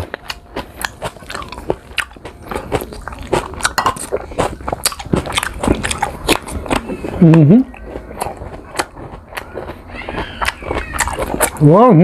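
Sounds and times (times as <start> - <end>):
crunching fruit: 0.0 - 12.0.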